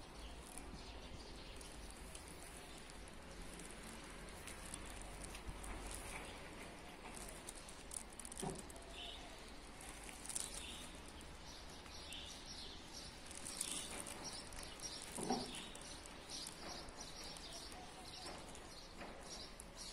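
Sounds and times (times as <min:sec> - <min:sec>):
songbirds chirping: 0:00.0 - 0:19.9.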